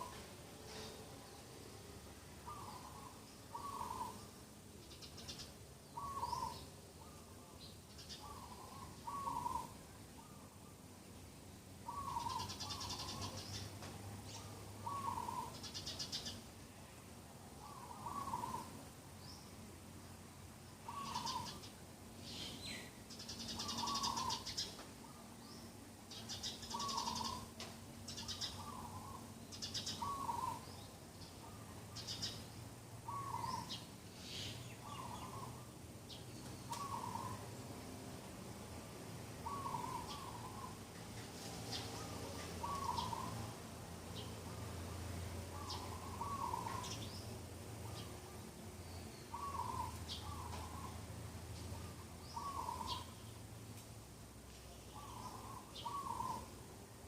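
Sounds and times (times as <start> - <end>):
birds chirping and trilling: 2.4 - 16.5, 17.5 - 19.6, 20.7 - 37.9, 39.2 - 53.6, 54.8 - 56.6.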